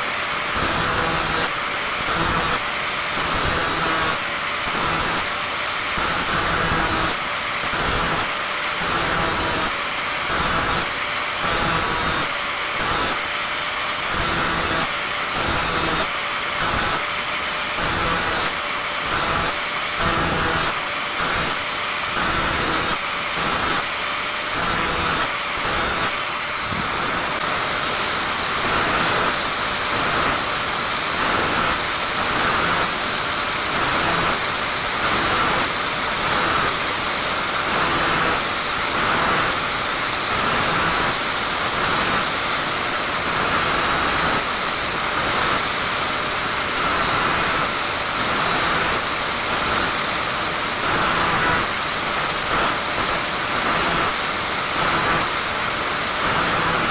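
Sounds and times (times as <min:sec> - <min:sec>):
angle grinder grinding saw teeth: 0:00.0 - 0:56.9.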